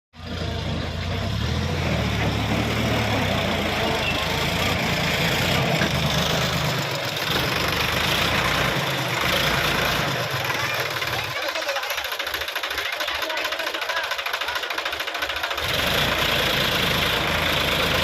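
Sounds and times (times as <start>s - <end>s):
tractor diesel engine running: 0.2s - 18.0s.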